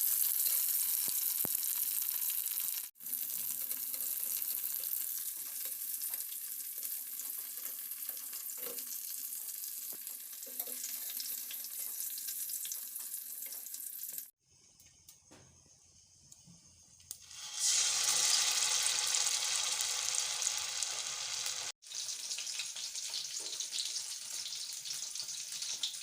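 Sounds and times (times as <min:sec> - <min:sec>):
food sizzling in hot oil: 0:00.0 - 0:14.4, 0:17.1 - 0:26.0.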